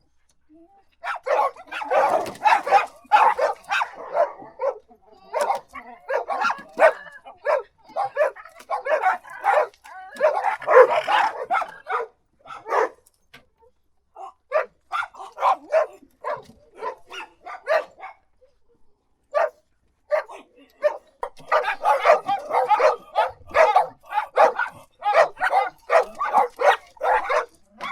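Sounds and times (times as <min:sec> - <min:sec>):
dog barking: 0:01.0 - 0:13.0, 0:14.2 - 0:18.3, 0:19.3 - 0:27.9.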